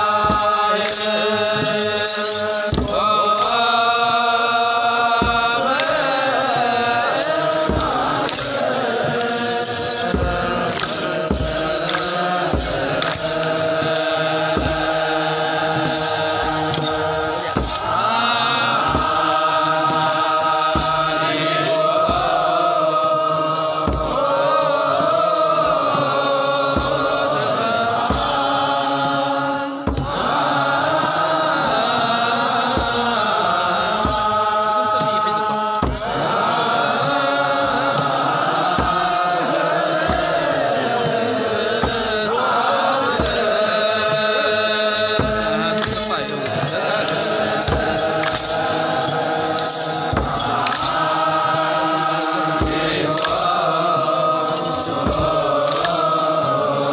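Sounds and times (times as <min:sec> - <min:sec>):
drum beats: 0:00.0 - 0:56.9
men's chorus chanting: 0:00.0 - 0:56.9.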